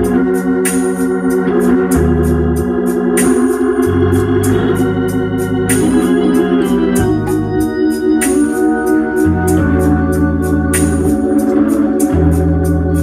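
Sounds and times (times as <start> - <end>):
bass note: 0.0 - 13.0
organ playing held chords: 0.0 - 13.0.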